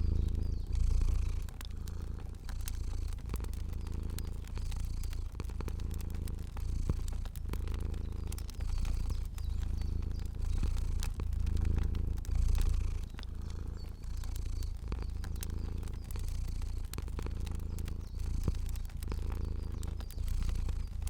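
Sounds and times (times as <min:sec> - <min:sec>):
cat purring: 0:00.0 - 0:21.0
fire popping and crackling: 0:00.0 - 0:21.0.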